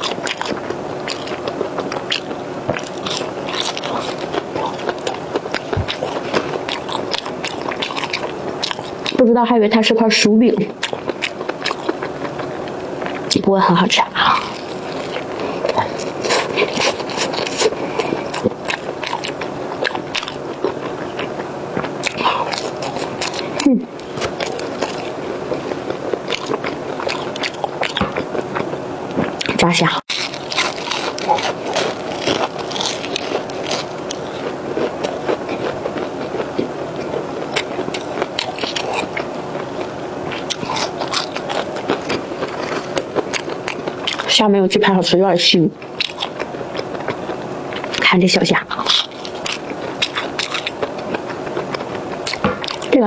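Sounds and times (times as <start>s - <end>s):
person chewing crispy food: 0.0s - 9.2s, 10.7s - 44.5s, 45.8s - 53.0s.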